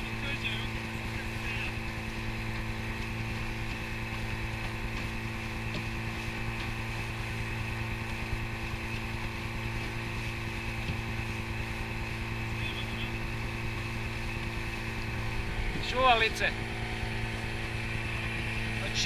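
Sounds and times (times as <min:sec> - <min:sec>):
outboard motor running: 0:00.0 - 0:19.0
water rushing along hull: 0:00.0 - 0:19.0.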